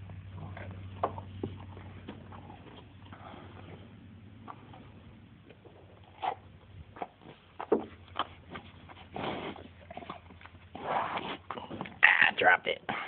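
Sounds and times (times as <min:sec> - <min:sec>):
bull crunching apple: 0:00.0 - 0:12.3
noisy chewing: 0:00.0 - 0:12.3.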